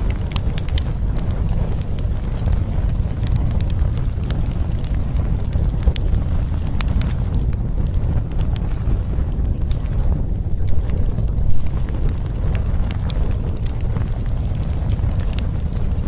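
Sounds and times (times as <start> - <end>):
low wind-like rumble: 0.0 - 16.0
sharp crackling clicks: 0.0 - 16.0.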